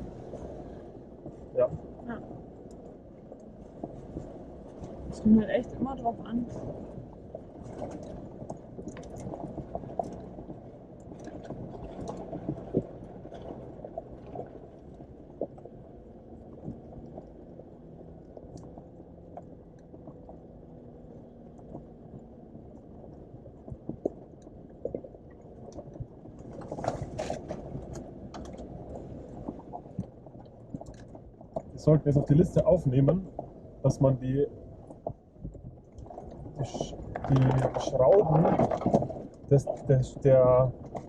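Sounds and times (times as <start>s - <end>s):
engine and tyre drone: 0.0s - 41.0s
body knocks and rattles: 1.2s - 31.8s, 34.7s - 41.0s.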